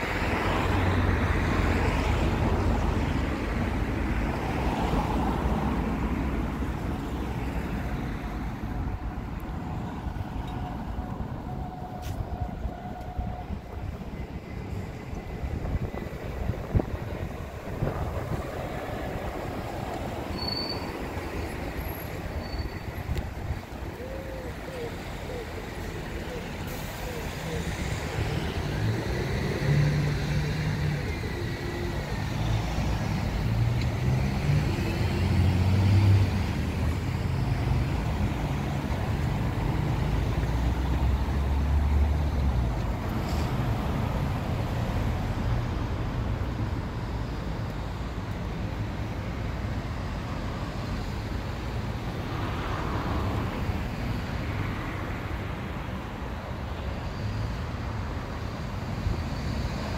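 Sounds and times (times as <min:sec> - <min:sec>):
vehicle engine humming deeply: 0:00.0 - 0:52.6
passing cars: 0:00.0 - 0:59.9.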